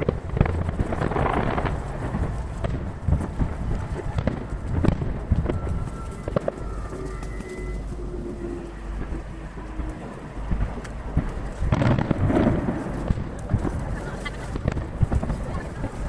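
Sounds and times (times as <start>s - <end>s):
faint steady tones: 0.0s - 16.0s
fireworks cracking: 0.0s - 16.0s
low booming rumble: 0.0s - 16.0s.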